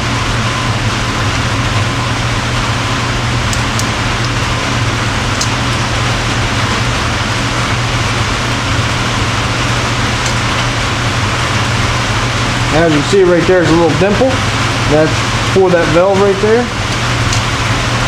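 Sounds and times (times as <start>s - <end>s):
fan humming and hissing: 0.0s - 18.0s.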